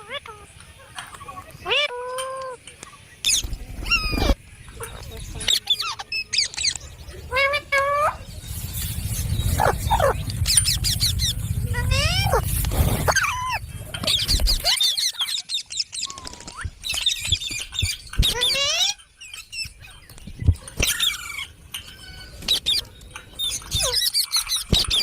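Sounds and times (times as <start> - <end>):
parrots chirping and squeaking: 0.0 - 25.0.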